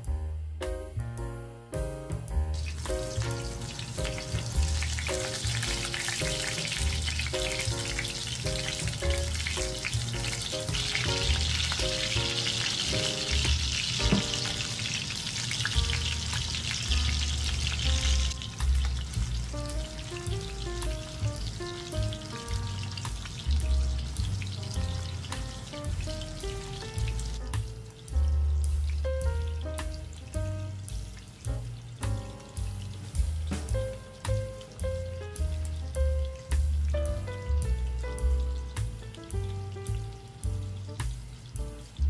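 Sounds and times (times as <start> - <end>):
keyboard music with bass: 0.0 - 42.0
meatballs sizzling in oil: 2.4 - 42.0.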